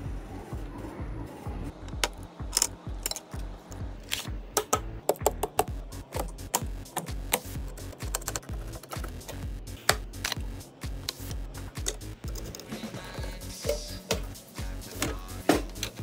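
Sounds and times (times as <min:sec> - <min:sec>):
music with deep bass beat: 0:00.0 - 0:16.0.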